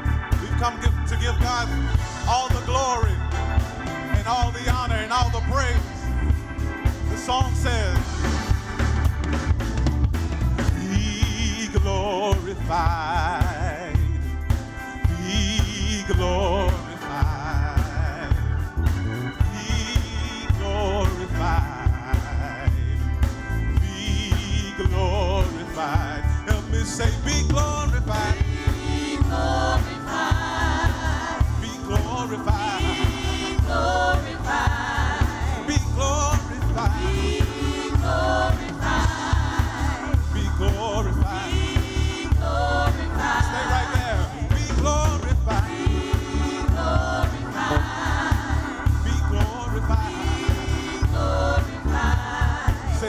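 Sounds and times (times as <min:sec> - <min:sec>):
band with strong bass: 0:00.0 - 0:53.0
choir singing gospel song: 0:00.0 - 0:53.0.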